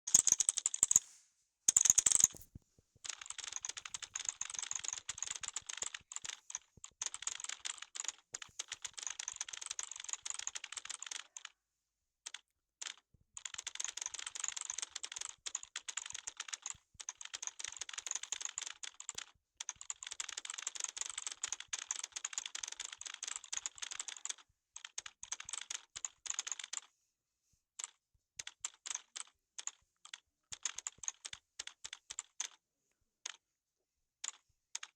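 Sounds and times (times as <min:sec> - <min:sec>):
typing on computer keyboard: 0:00.1 - 0:01.0, 0:01.7 - 0:11.5, 0:12.2 - 0:26.9, 0:27.8 - 0:32.6, 0:34.2 - 0:34.9.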